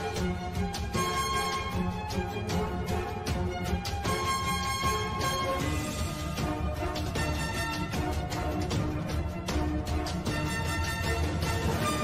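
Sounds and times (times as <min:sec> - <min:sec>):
background music sustained notes: 0:00.0 - 0:12.0.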